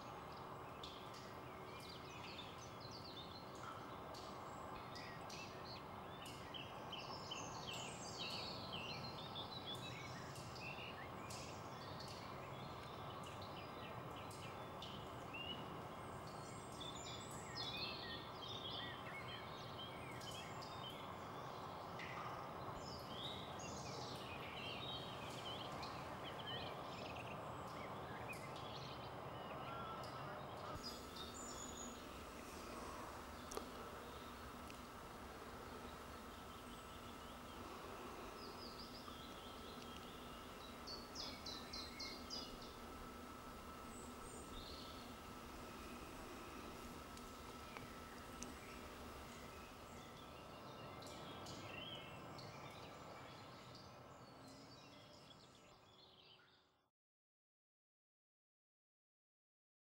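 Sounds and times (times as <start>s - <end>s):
small birds chirping: 0.0s - 56.6s
faint steady background noise: 0.0s - 56.8s.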